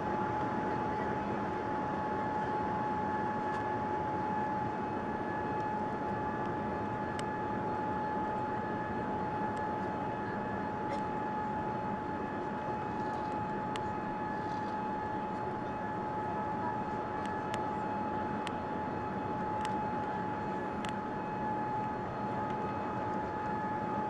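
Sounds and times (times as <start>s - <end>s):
airliner engine and airflow rush: 0.0s - 24.0s
steady high whine: 0.0s - 24.0s.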